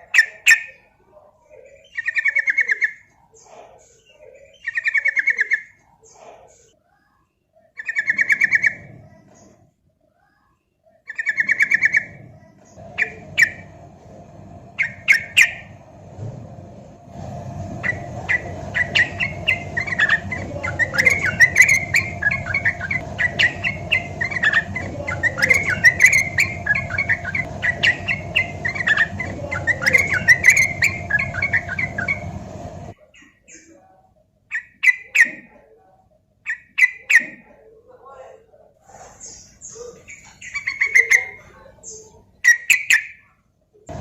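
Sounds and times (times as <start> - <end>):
bird trilling and chattering: 0.0 - 0.9, 1.5 - 6.8, 7.6 - 9.6, 10.9 - 16.2, 16.9 - 33.9, 34.5 - 35.8, 36.4 - 37.7, 39.0 - 43.3
low background hum: 0.0 - 44.0.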